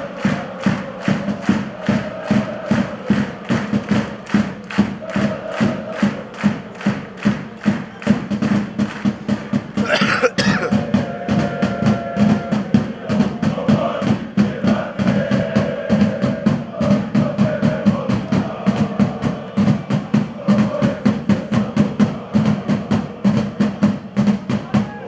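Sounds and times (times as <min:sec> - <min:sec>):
drum beating steadily: 0:00.0 - 0:25.0.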